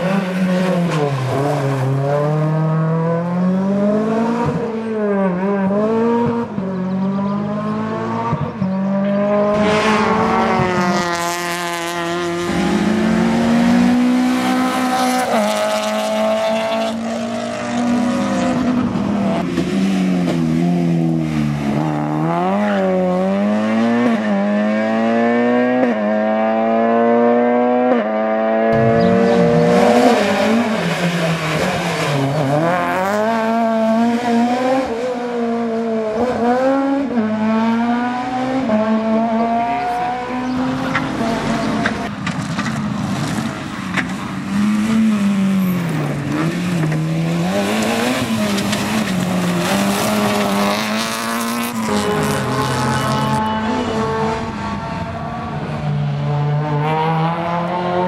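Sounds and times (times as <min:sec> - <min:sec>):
rally car engines at full throttle: 0:00.0 - 0:58.0.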